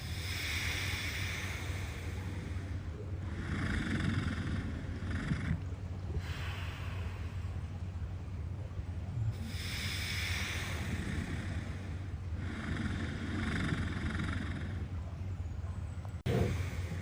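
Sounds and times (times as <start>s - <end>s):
walrus snoring: 0.0s - 7.6s, 9.1s - 15.0s, 16.2s - 17.0s
steady low hum: 0.0s - 17.0s.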